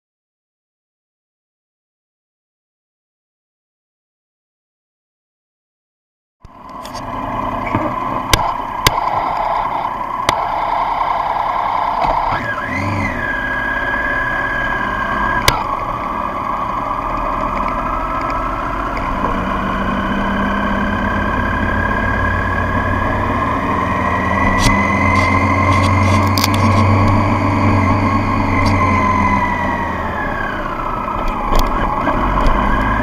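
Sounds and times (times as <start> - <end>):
motorcycle engine running: 6.5 - 33.0.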